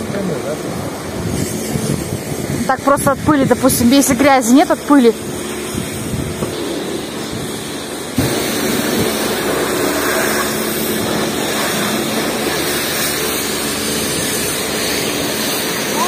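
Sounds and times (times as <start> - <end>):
car wash machine spraying: 0.0 - 16.0.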